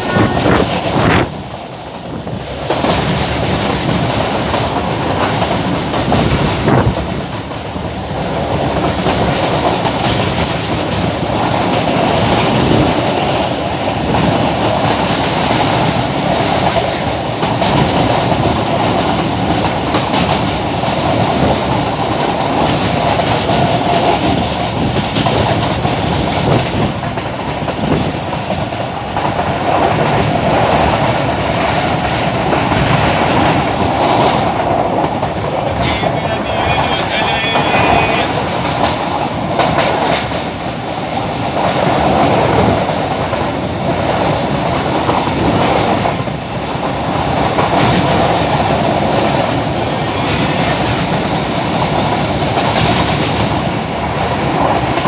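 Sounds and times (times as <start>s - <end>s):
passenger train running on track: 0.0s - 55.0s.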